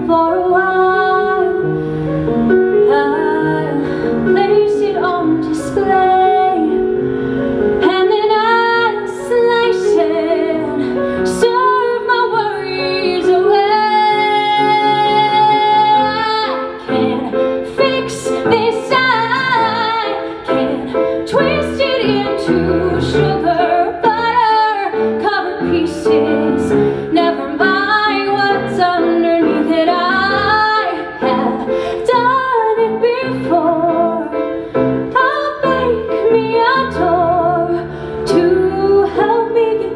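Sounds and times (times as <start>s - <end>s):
piano accompaniment: 0.0s - 39.9s.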